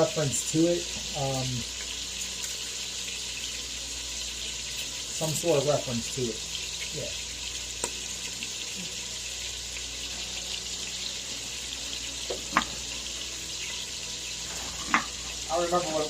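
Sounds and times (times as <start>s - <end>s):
water running from a tap: 0.0s - 16.0s.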